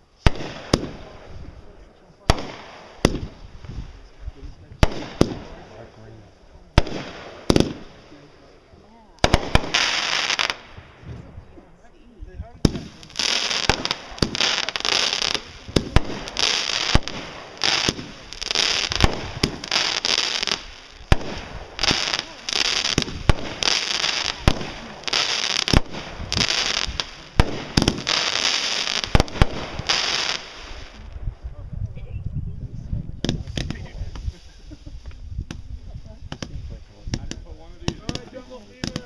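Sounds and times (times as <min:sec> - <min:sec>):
fireworks bangs: 0:00.0 - 0:11.8, 0:12.6 - 0:31.4, 0:33.2 - 0:34.7, 0:35.4 - 0:39.0
hissing crackle of fireworks: 0:00.0 - 0:11.8, 0:12.6 - 0:31.3, 0:33.2 - 0:39.0.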